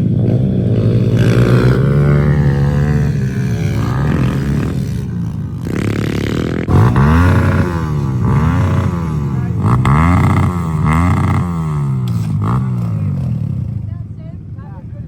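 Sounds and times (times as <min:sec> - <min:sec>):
small motorcycle engine revving: 0:00.0 - 0:13.9.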